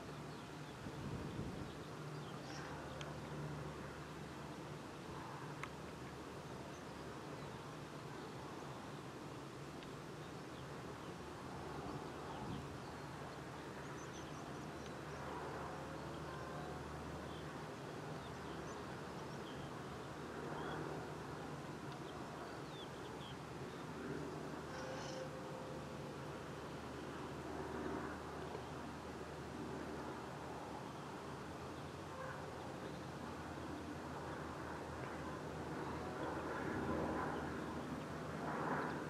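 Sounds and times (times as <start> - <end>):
distant light aircraft drone: 0.0 - 39.0.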